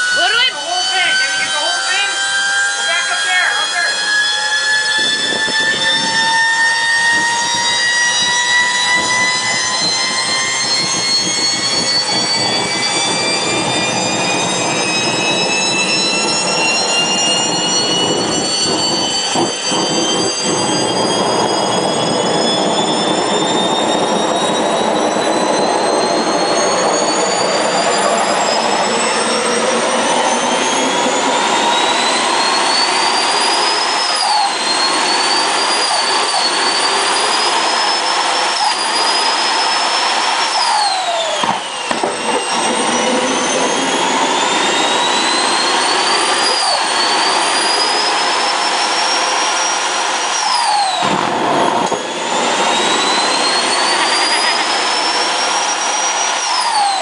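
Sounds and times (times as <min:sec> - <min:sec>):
high turbine whine: 0:00.0 - 0:57.0
turbojet engines running: 0:00.0 - 0:57.0.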